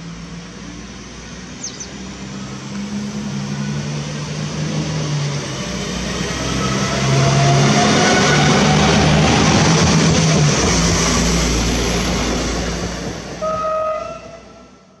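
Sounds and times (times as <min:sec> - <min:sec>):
railbus passing: 0:00.0 - 0:15.0.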